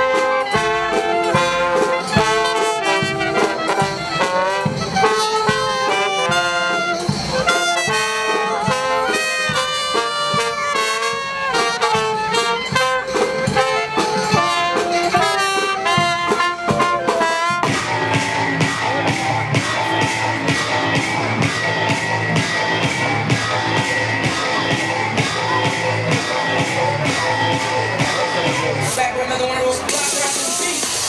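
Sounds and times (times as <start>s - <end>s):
trumpets and trombones: 0.0s - 29.0s
drums: 0.0s - 31.0s.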